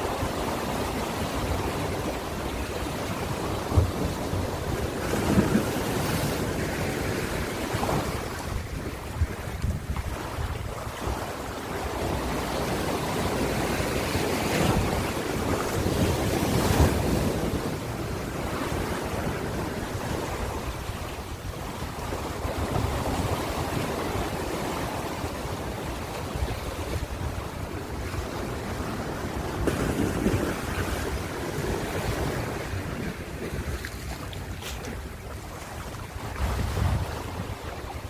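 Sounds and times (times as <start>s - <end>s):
ocean waves breaking: 0.0s - 38.0s
wind on microphone: 0.0s - 38.0s.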